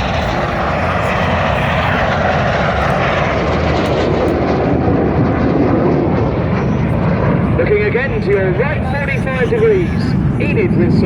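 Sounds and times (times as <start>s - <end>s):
jets flying low pass: 0.0s - 11.0s.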